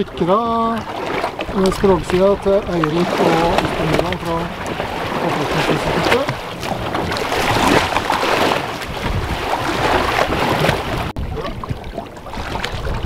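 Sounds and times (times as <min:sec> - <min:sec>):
water slapping against boat hulls: 0:00.0 - 0:13.0
wind buffeting microphone: 0:00.0 - 0:13.0.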